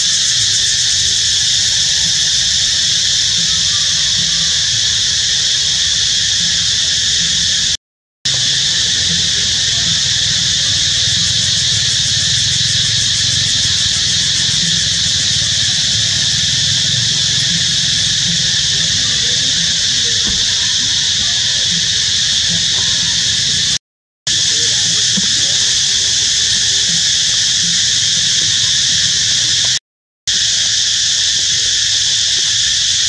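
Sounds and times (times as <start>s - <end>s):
cicadas droning: 0.0s - 33.0s.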